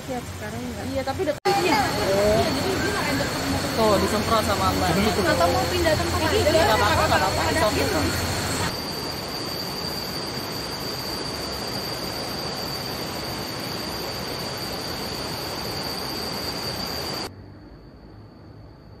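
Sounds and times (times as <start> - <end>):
stream water rushing: 0.0 - 17.3
high insect trill: 0.2 - 19.0.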